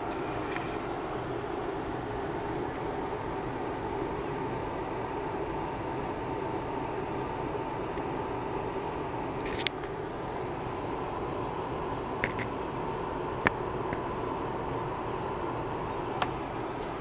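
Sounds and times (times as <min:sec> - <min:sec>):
background hum and hiss: 0:00.0 - 0:17.0
faint constant whine: 0:00.0 - 0:17.0.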